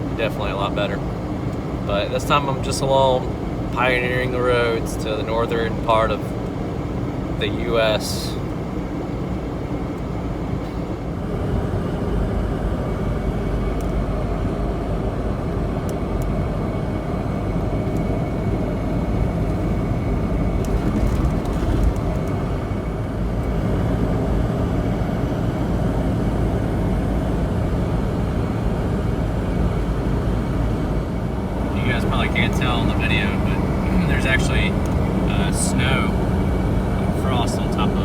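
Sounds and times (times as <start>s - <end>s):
car cabin road rumble: 0.0s - 38.0s
faint steady whine: 0.0s - 38.0s.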